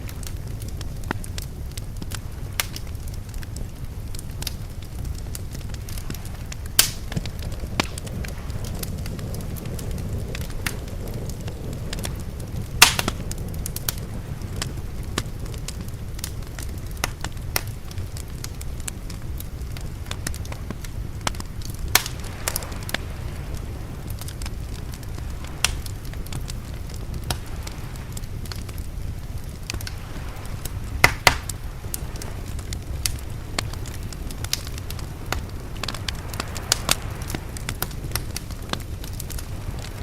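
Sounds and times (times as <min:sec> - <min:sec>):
fire crackling and popping: 0:00.0 - 0:40.0
low rumble: 0:00.0 - 0:40.0.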